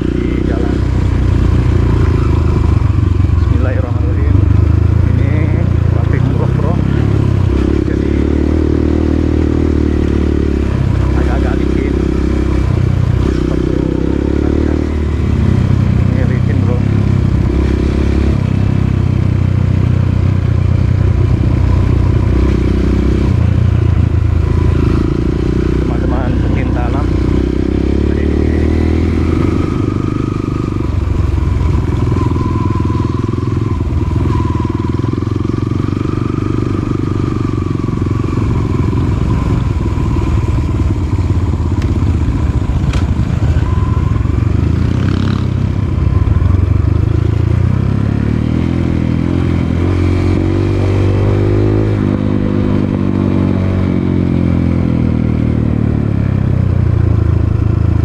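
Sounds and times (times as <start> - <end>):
dirt bike engine revving: 0.0 - 55.2.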